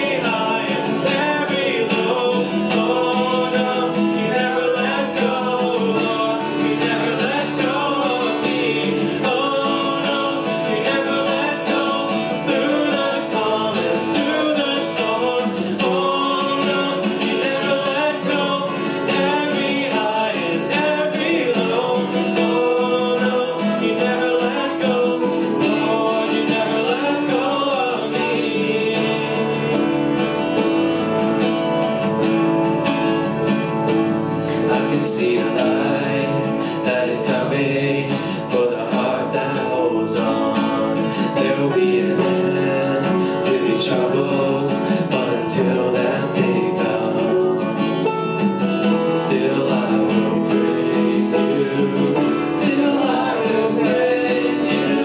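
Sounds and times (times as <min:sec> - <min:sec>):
person singing: 0:00.0 - 0:32.2, 0:33.3 - 0:55.0
acoustic guitar: 0:00.0 - 0:55.0
keyboard accompaniment: 0:00.0 - 0:55.0.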